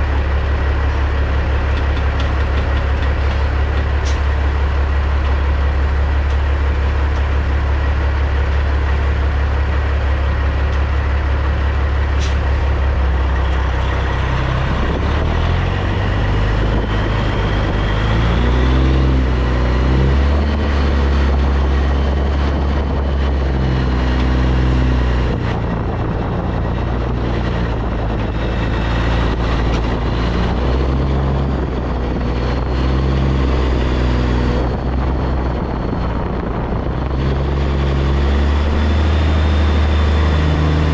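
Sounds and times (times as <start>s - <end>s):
diesel truck engine at low revs: 0.0s - 40.9s.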